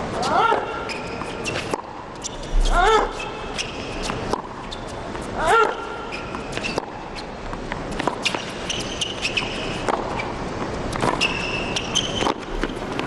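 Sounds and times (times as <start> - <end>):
shoes squeaking on court: 0.2 - 13.0
tennis ball bouncing: 0.6 - 13.0
racquets striking tennis ball: 1.0 - 13.0.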